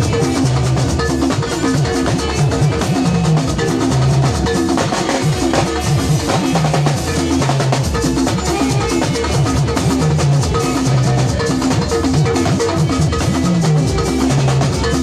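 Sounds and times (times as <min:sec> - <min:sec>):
bass line: 0:00.0 - 0:15.0
drum kit: 0:00.0 - 0:15.0
live band instrumental groove: 0:00.0 - 0:15.0
repeated guitar or keyboard notes: 0:00.0 - 0:15.0.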